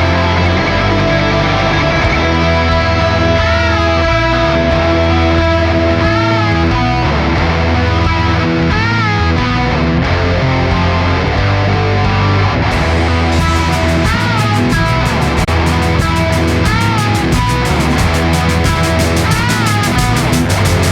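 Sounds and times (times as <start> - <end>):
bass guitar: 0.0 - 20.9
electric guitar riff: 0.0 - 20.9.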